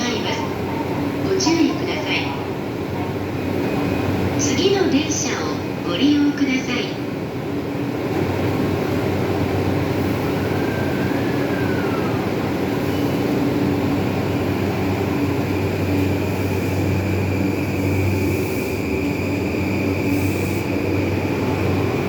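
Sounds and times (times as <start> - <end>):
train moving rumble: 0.0 - 22.0.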